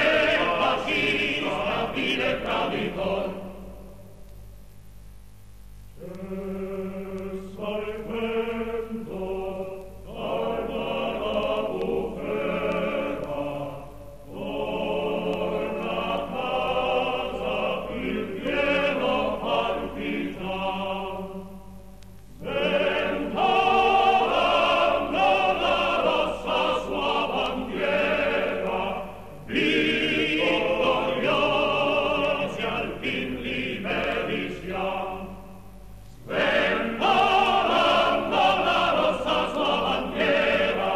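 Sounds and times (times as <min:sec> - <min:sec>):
choir singing operatically: 0:00.0 - 0:03.8, 0:06.0 - 0:21.6, 0:22.3 - 0:40.9.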